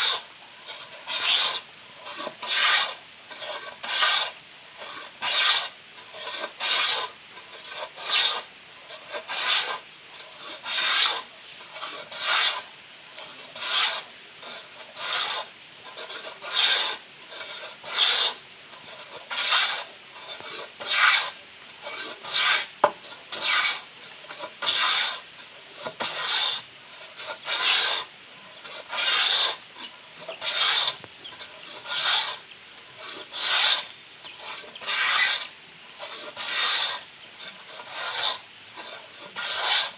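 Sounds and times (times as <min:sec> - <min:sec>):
hand plane shaving wood: 0:00.0 - 0:39.9.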